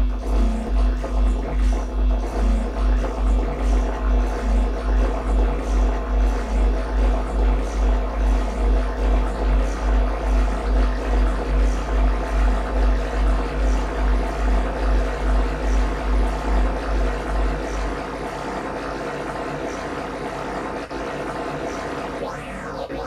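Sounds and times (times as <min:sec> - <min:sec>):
deep throbbing electronic pulse: 0:00.0 - 0:23.0
dense electronic drone: 0:00.0 - 0:23.0.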